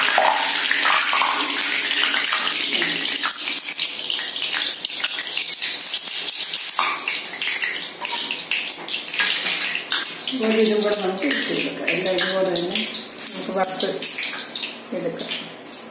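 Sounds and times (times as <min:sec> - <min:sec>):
oil sizzling and crackling: 0:00.0 - 0:15.9.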